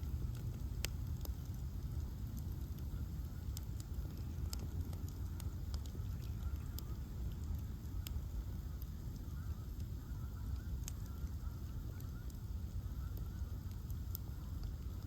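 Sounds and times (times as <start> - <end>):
bonfire rumbling: 0.0 - 15.0
fire crackles and pops: 0.0 - 15.0.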